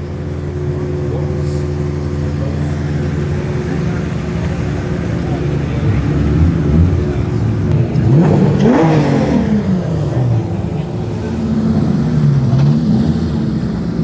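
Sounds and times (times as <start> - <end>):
car engine rising and falling: 0.0 - 14.0
car engines running: 0.0 - 14.0.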